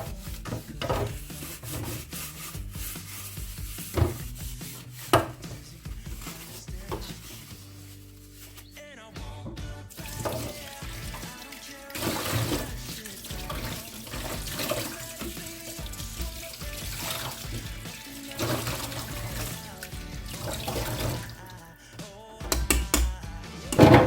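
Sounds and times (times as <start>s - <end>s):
background music: 0.0s - 24.0s
tap water running into sink: 0.3s - 7.4s, 9.5s - 21.6s, 23.7s - 24.0s.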